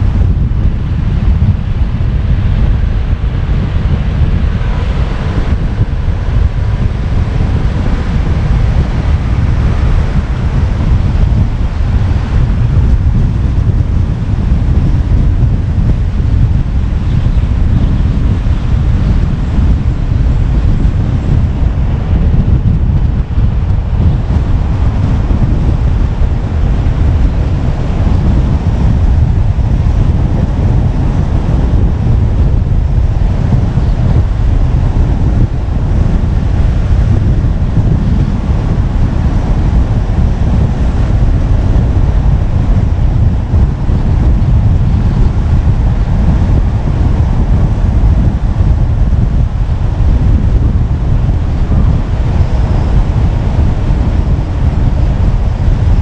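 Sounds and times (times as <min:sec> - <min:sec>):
car road noise: 0:00.0 - 0:56.0
wind buffeting microphone: 0:00.0 - 0:56.0.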